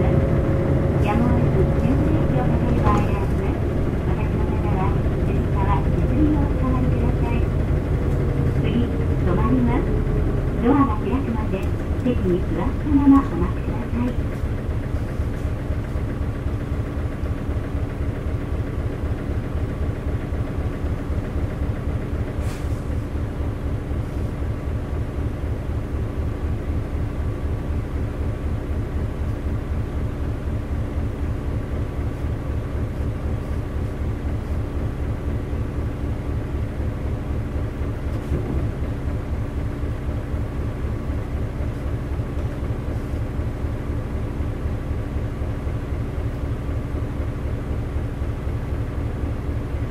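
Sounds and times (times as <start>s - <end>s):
diesel bus engine running: 0.0s - 49.9s.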